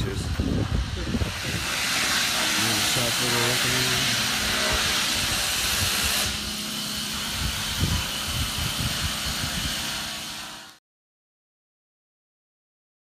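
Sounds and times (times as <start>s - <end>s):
steady rushing noise: 0.0s - 10.6s.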